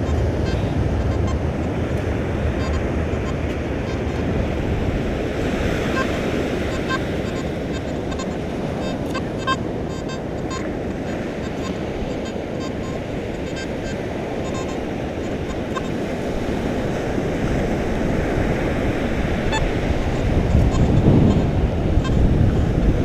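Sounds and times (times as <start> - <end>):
metal detector beeps: 0.0 - 4.8, 5.5 - 22.3
surf: 0.0 - 23.0
wind: 0.0 - 23.0.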